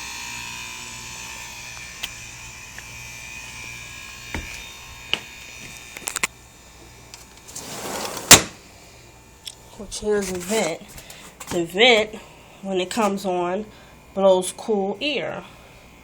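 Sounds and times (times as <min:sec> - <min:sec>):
heat pump humming: 0:00.0 - 0:16.0
high electrical whine: 0:00.0 - 0:16.0.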